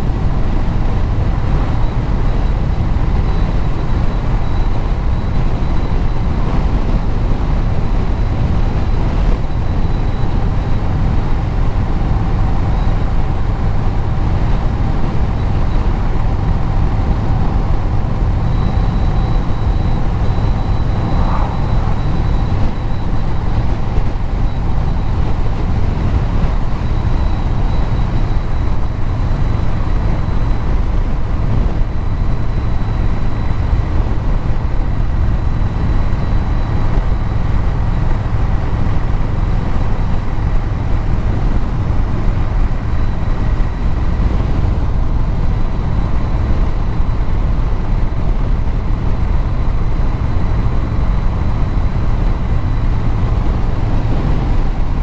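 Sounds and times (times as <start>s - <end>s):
faint high whine: 0.0s - 55.0s
road and wind noise: 0.0s - 55.0s
vehicle engine and exhaust cruising: 0.0s - 55.0s.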